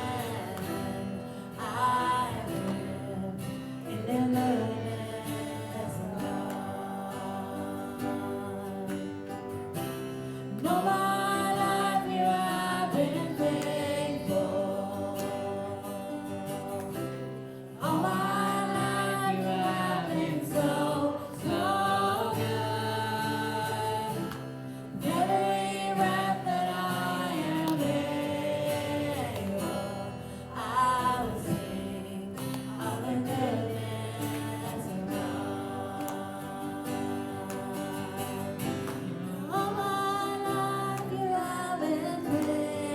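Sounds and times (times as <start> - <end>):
gospel singing: 0.0 - 42.9.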